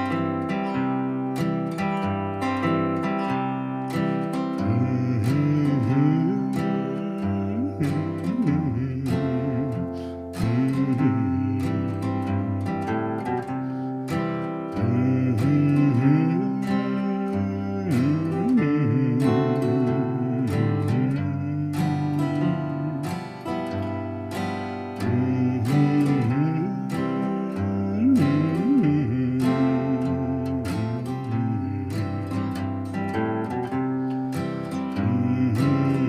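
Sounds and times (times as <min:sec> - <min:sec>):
acoustic guitar with sliding notes: 0:00.0 - 0:36.0.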